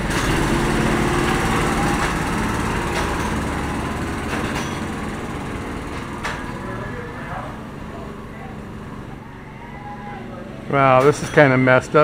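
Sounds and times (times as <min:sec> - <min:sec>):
go-kart engines idling: 0:00.0 - 0:12.0.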